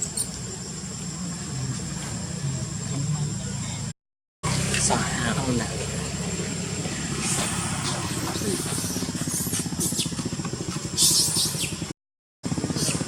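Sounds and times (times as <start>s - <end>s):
small engine running steadily: 0.6s - 13.0s.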